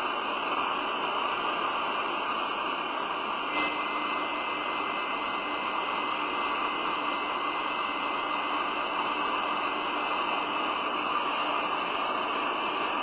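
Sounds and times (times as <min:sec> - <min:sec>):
static hiss: 0:00.0 - 0:13.0
faint steady tone: 0:02.3 - 0:13.0.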